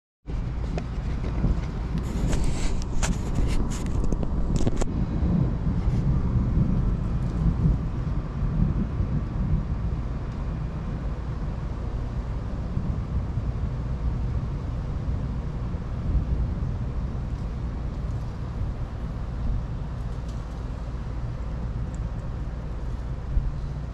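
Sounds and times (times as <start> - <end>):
thunderstorm rumble: 0.3 - 23.9.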